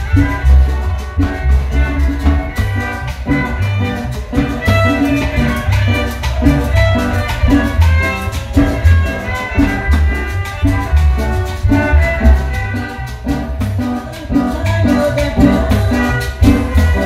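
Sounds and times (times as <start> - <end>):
bass line: 0.0 - 17.0
folk dance band melody: 0.0 - 17.0
percussion beat: 0.0 - 17.0.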